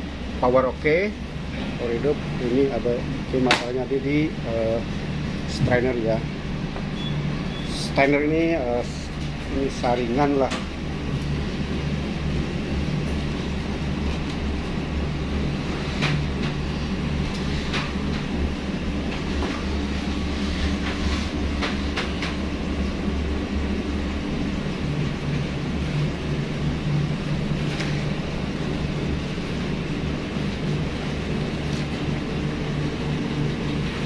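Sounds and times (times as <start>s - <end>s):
machine humming: 0.0s - 34.0s.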